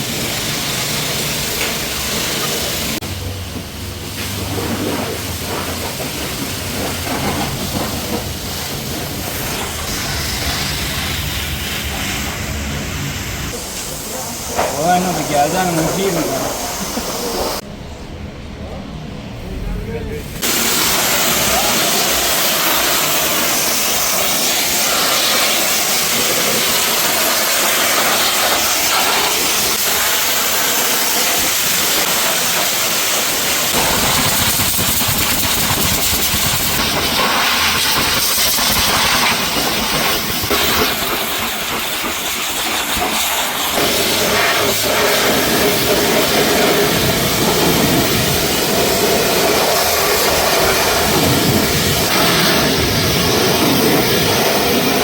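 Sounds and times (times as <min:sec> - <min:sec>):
pressure washer spray hissing: 0:00.0 - 0:17.6, 0:20.3 - 0:55.0.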